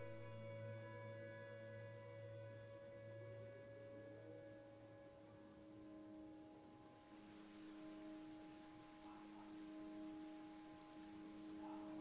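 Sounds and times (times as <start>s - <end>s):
ambient drone music: 0.0s - 12.0s.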